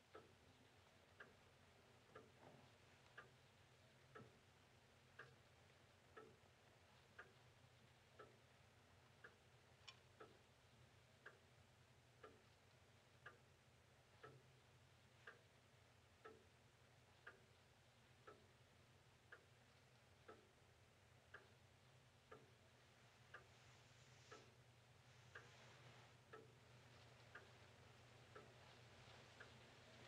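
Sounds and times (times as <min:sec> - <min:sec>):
clock ticking: 0:00.0 - 0:30.0.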